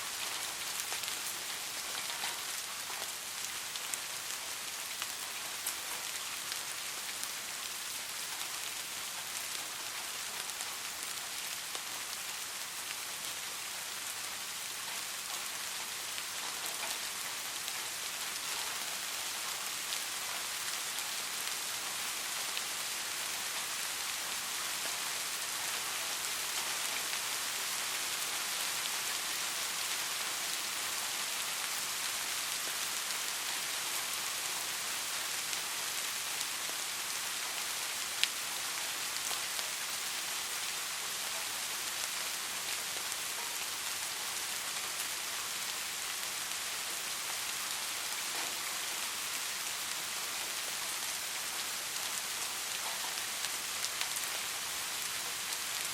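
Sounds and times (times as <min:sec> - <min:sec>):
soft rain falling: 0:00.0 - 0:55.9.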